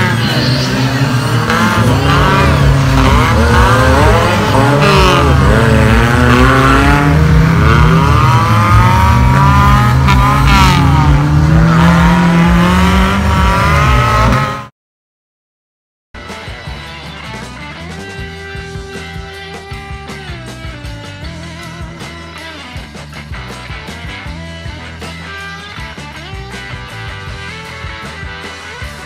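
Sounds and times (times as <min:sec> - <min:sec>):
racing engines revving: 0:00.0 - 0:14.7, 0:16.2 - 0:29.0.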